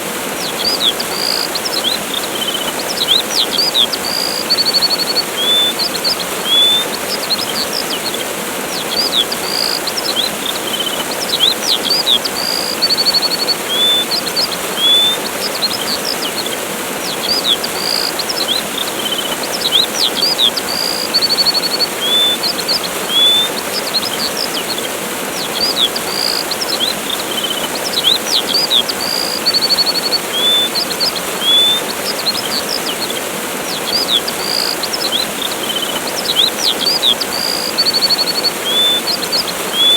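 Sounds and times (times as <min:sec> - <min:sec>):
small birds chirping: 0:00.0 - 0:39.9
waterfall rushing: 0:00.0 - 0:39.9.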